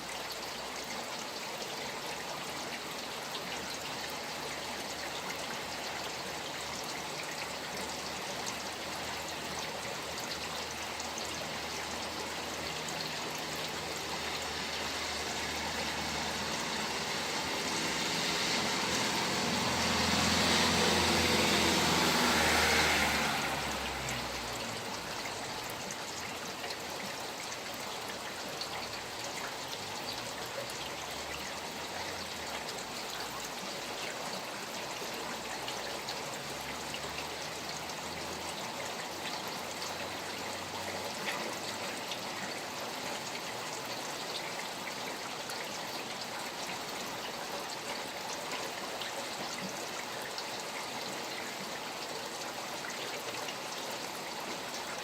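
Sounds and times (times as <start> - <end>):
steady rain falling: 0.0 - 55.0
stream water flowing: 0.0 - 55.0.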